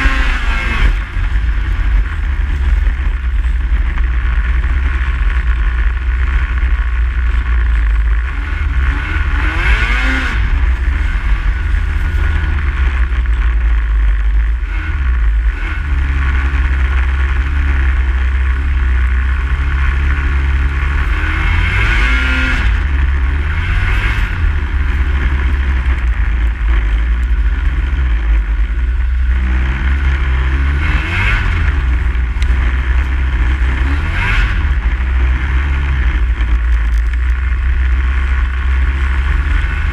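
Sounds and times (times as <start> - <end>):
snowmobile engine revving: 0.0 - 36.6, 37.4 - 39.9.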